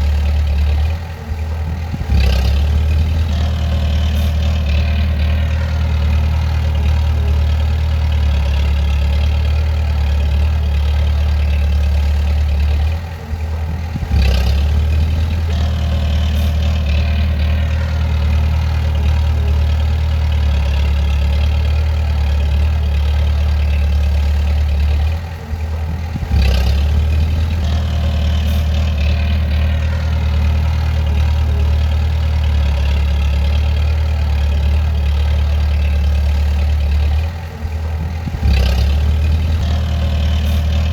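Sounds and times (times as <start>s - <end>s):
bulldozer clank: 0.0s - 40.9s
bulldozer diesel engine running: 0.0s - 40.9s.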